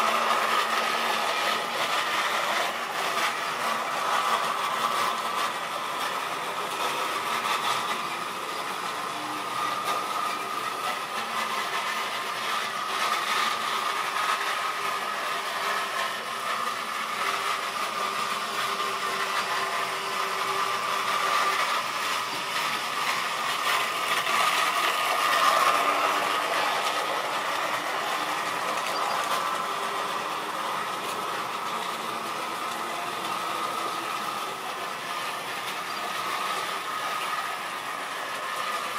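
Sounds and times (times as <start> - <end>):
model train motor whine: 0.0 - 38.9
wheels rattling on rail: 0.0 - 38.9.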